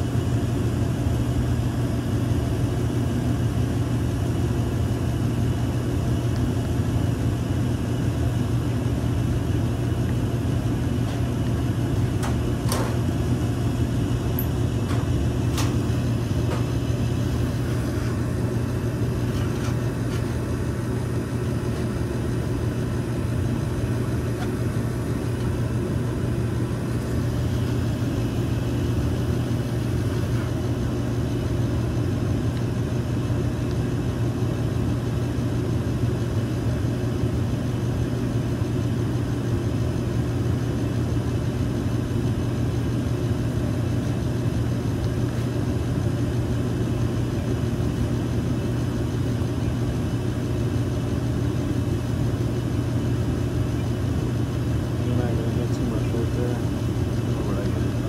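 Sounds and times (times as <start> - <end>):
gas furnace hum: 0.0 - 58.0.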